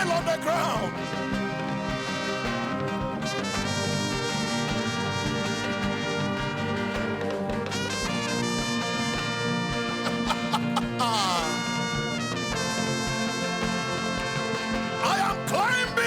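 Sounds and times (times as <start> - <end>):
brass-led instrumental music: 0.0 - 16.0.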